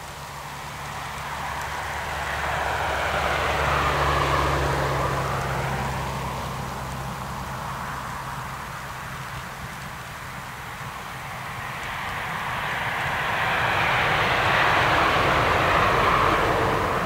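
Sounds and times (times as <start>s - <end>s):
steam locomotive passing: 0.7s - 7.7s, 10.2s - 17.0s.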